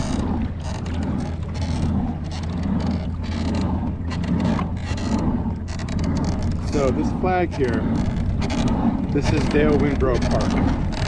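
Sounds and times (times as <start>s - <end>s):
kayak paddle splashing: 0.0s - 11.0s
steady low drone: 0.0s - 11.0s.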